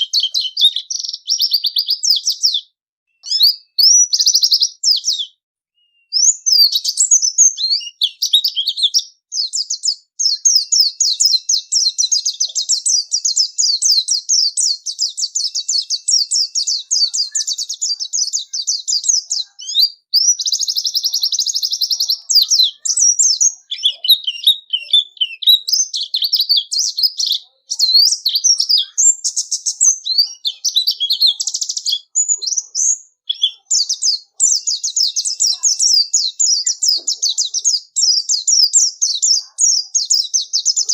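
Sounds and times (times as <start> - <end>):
bird warbling song: 0.0 - 40.9.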